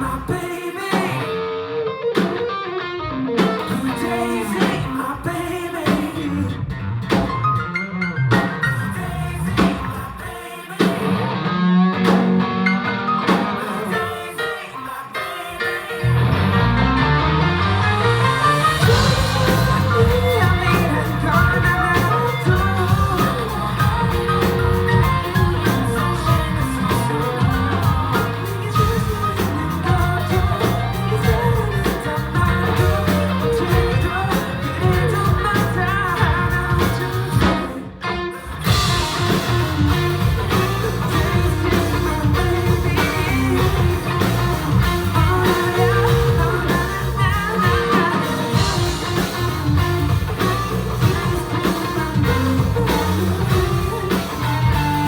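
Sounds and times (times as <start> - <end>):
lead vocal singing: 0.0 - 1.8, 3.4 - 6.8, 8.6 - 11.5, 13.2 - 55.0
live pop-rock band: 0.0 - 55.0.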